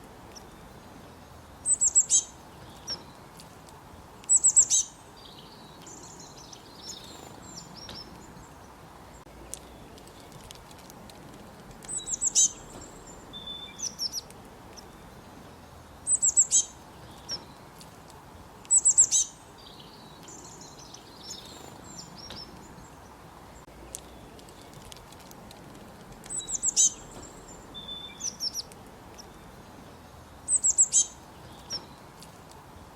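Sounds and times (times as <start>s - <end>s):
squirrel chirping: 0.0s - 3.4s, 4.2s - 10.7s, 11.7s - 17.9s, 18.5s - 32.9s.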